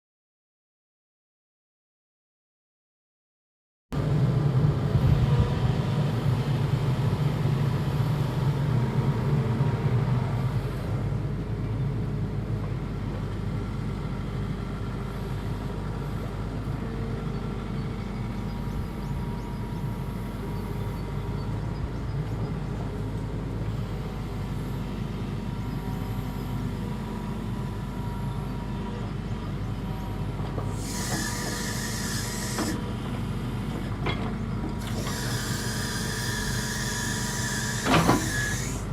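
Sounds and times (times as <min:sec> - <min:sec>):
diesel engine running: 0:04.0 - 0:38.9.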